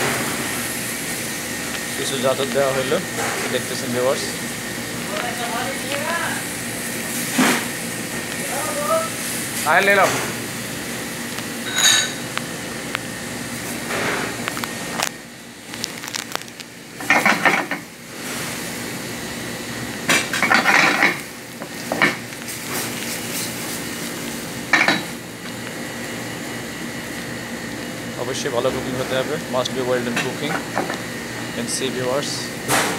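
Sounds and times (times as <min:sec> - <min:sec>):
food sizzling in a frying pan: 0:00.0 - 0:32.9.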